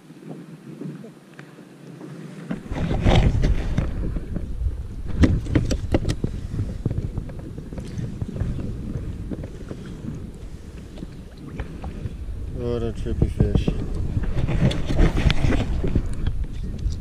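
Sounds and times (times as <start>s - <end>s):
wind buffeting microphone: 1.9s - 17.0s.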